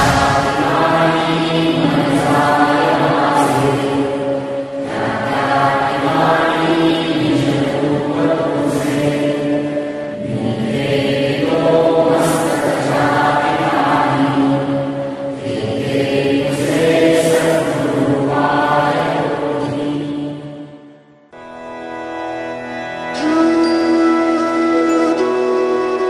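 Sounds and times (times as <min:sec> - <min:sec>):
voices chanting in unison: 0:00.0 - 0:21.0.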